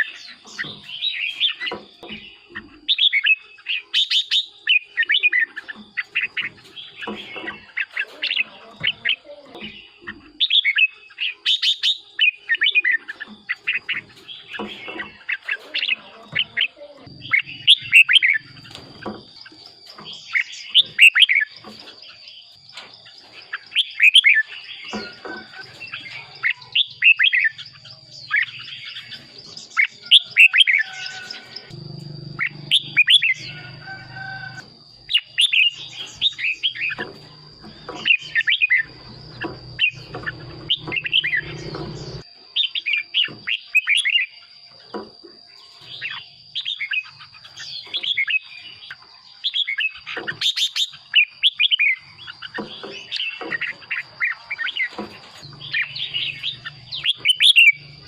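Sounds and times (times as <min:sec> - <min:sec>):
bird warbling song: 0:00.0 - 0:58.0.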